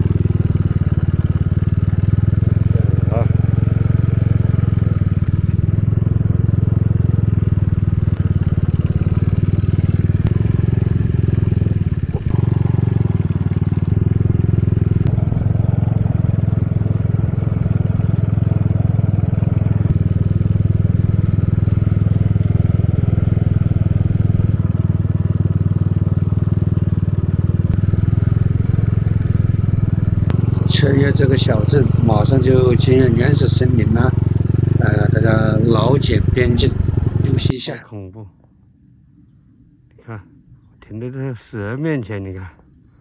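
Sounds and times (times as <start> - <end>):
small motorcycle engine running: 0.0 - 37.6.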